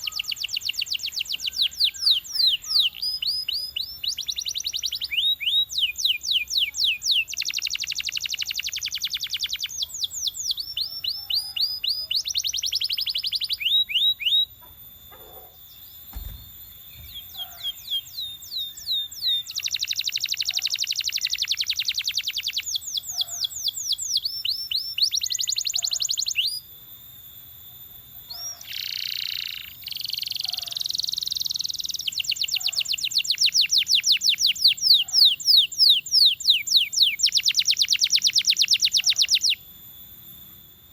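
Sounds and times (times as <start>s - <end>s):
canary singing trills: 0.0s - 26.7s, 27.8s - 40.9s.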